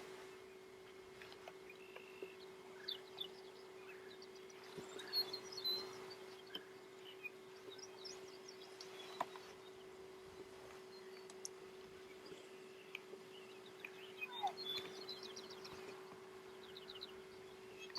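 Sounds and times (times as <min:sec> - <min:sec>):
steady low hum: 0:00.0 - 0:17.9
faint bird chirps: 0:01.6 - 0:17.9.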